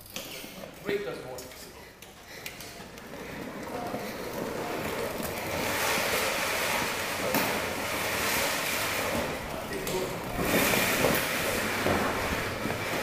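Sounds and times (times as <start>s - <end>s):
plastic wheels rolling on concrete: 0.0s - 13.0s.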